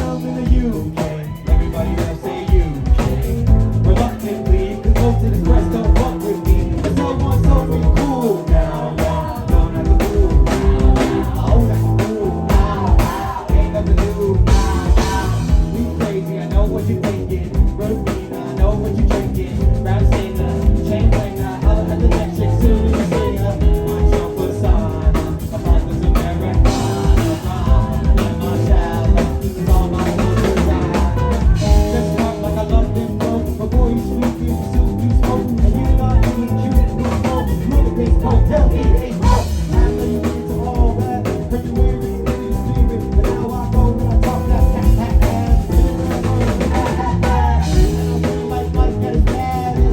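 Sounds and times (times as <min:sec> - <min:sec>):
bass: 0:00.0 - 0:49.9
drum kit beat with rimshots: 0:00.0 - 0:49.9
guitar: 0:00.0 - 0:49.9.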